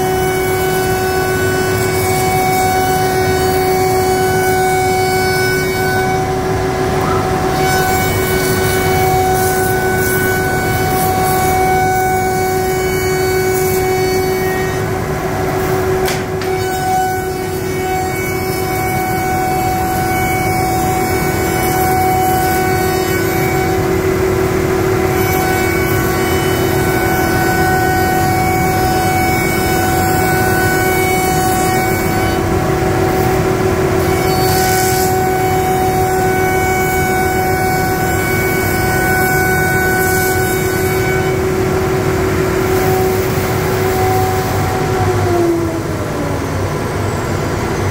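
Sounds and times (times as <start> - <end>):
cnc router spindle whine: 0.0 - 47.9.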